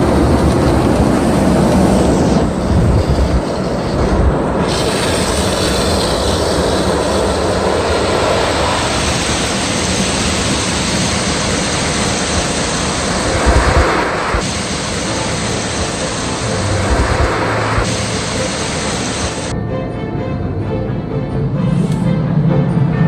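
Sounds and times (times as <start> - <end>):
car wash machinery rushing: 0.0 - 19.6.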